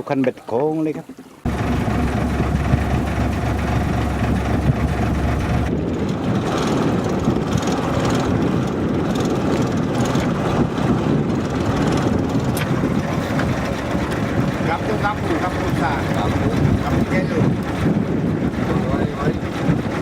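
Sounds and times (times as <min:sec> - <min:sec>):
wind and water noise: 0:00.0 - 0:20.0
boat engine humming: 0:01.0 - 0:20.0.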